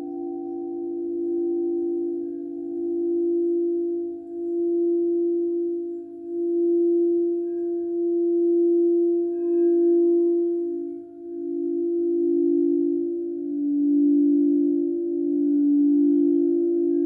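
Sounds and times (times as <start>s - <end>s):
singing bowls humming: 0.0s - 17.0s.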